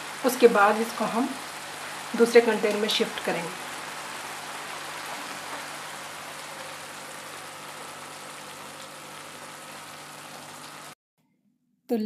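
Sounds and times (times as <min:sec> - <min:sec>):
gravy sizzling in a pan: 0:00.0 - 0:11.0.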